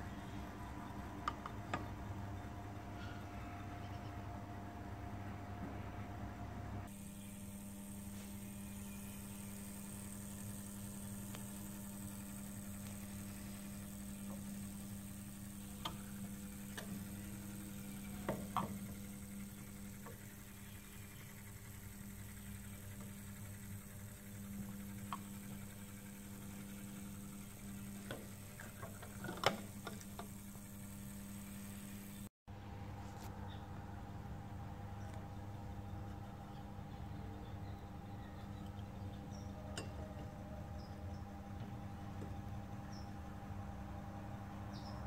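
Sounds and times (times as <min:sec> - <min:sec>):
electrical hum: 0:00.0 - 0:45.0.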